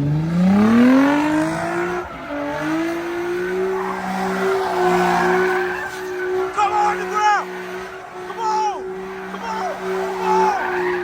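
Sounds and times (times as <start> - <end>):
car engine revving hard: 0.0 - 11.0
tyres squealing: 1.7 - 11.0.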